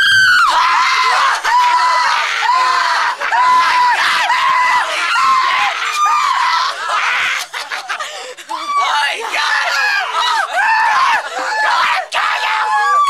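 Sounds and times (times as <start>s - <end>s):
young man screaming: 0.0s - 7.4s, 8.5s - 13.0s.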